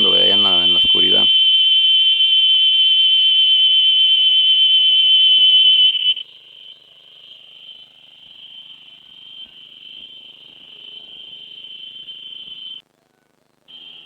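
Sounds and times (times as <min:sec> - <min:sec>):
cicada buzzing: 0:00.0 - 0:12.8.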